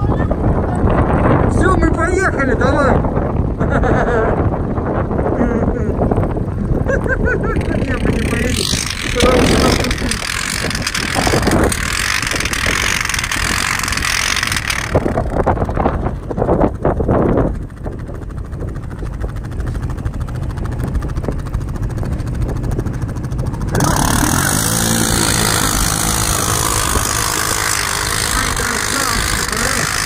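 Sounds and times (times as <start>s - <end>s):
atv engine running under load: 0.0s - 30.0s.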